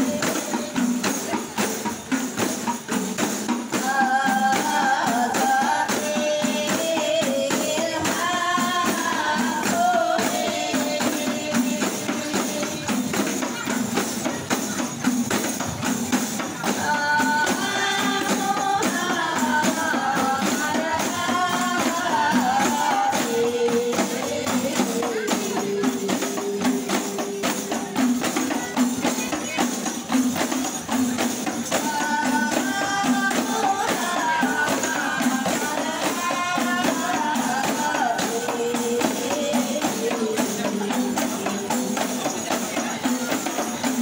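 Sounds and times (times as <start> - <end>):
frame drums beaten in rhythm: 0.0 - 44.0
voices singing: 0.0 - 44.0.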